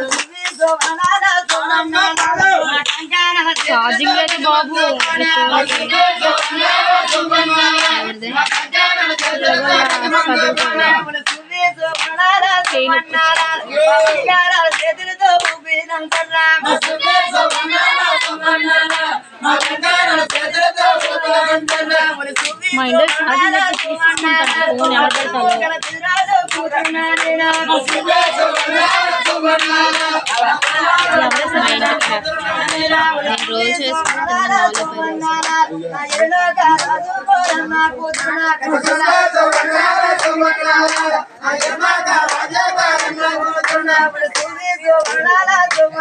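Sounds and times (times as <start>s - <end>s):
group of people singing: 0.0s - 46.0s
rhythmic hand clapping: 0.0s - 46.0s.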